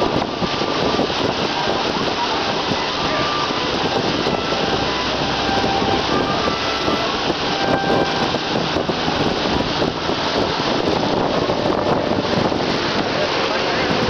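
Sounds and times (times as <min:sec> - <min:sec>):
boat engines running: 0:00.0 - 0:14.0
wake churning: 0:00.0 - 0:14.0.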